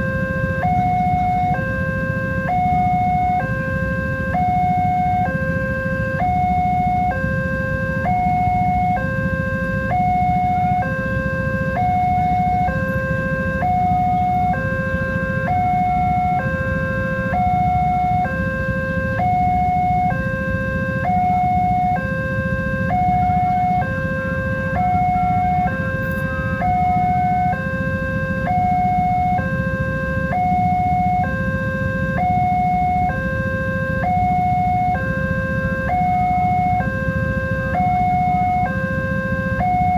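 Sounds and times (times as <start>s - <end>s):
level crossing alarm two-tone: 0.0s - 39.9s.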